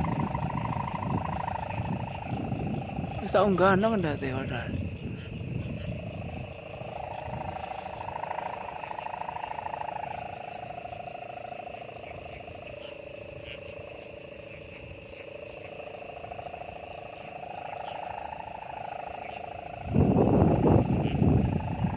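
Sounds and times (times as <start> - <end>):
kite hummer droning: 0.0 - 21.9.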